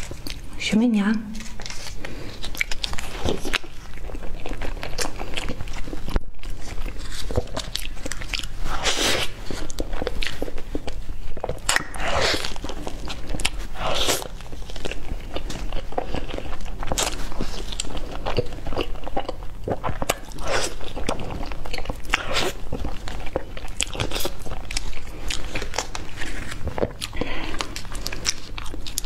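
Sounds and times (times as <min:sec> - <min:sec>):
chewing cupcake: 0:01.4 - 0:29.0.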